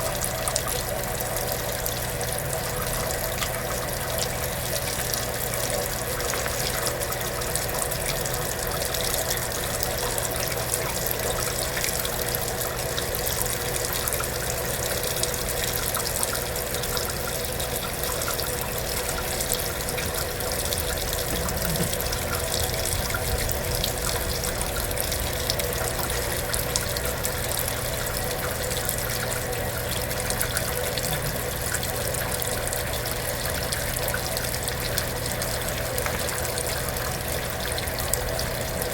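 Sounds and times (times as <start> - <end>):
washing machine running: 0.0 - 38.9
water rushing: 0.0 - 38.9.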